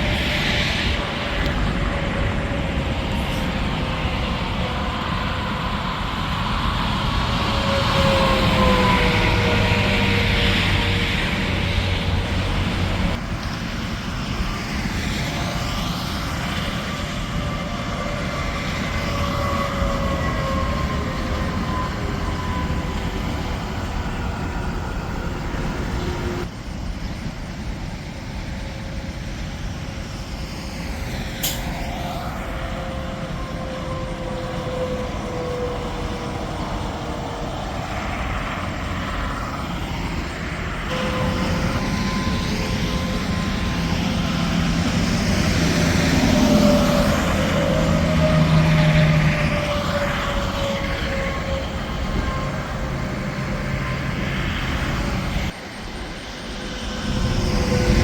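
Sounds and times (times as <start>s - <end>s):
highway traffic passing: 0.0s - 27.0s, 29.0s - 58.0s.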